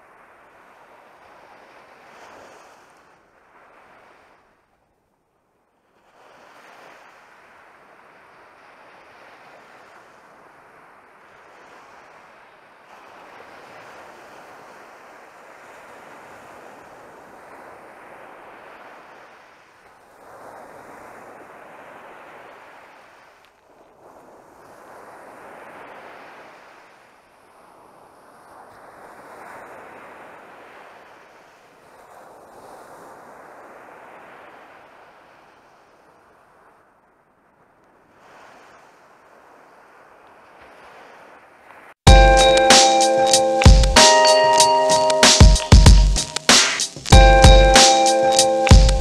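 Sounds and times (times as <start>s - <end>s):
waves breaking on sandy shore: 0.0s - 45.4s, 46.0s - 49.0s.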